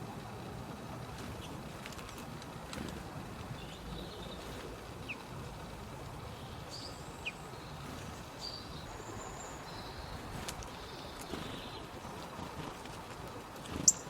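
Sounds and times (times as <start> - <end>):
birds chirping: 0.0 - 14.0
outdoor background hiss: 0.0 - 14.0.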